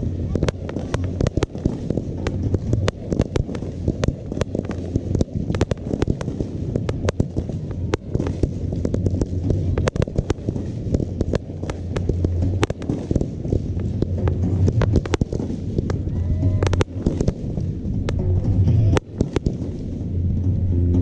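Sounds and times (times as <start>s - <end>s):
fireworks bangs and pops: 0.0s - 21.0s
low rumble: 0.0s - 21.0s.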